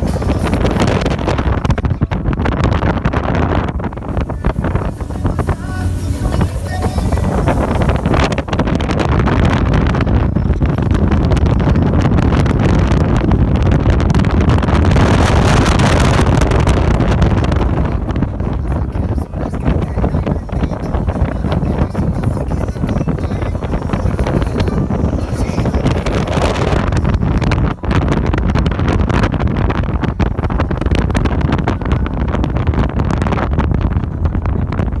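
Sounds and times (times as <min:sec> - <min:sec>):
low rumble of boat: 0:00.0 - 0:35.0
motorboat running over water: 0:00.0 - 0:35.0
wind buffeting microphone: 0:00.0 - 0:35.0.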